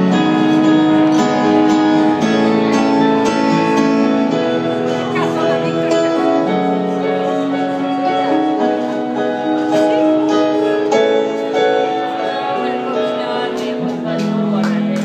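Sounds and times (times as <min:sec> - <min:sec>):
slow sustained chords live music: 0:00.0 - 0:15.0.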